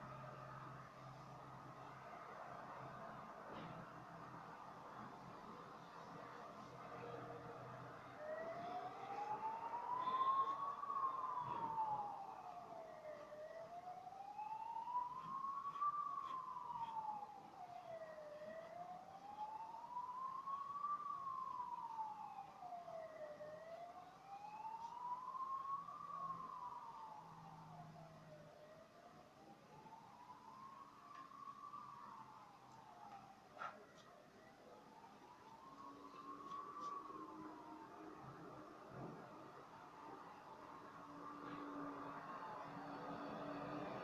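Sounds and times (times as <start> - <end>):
siren wailing: 0.0 - 44.0.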